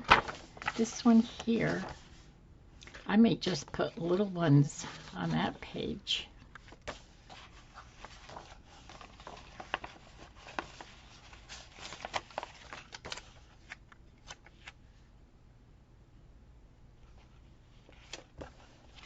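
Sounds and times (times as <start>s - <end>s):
paper crinkling and rustling: 0.0s - 2.3s, 2.9s - 14.8s, 17.1s - 19.0s.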